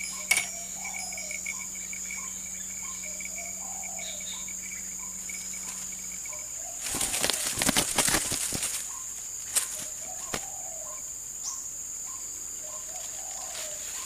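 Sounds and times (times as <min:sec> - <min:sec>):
insect chirring: 0:00.0 - 0:14.0.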